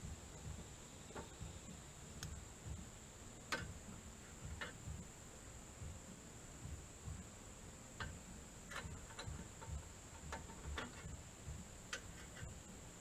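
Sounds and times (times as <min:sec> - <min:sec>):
steady high-pitched hum: 0:00.0 - 0:13.0.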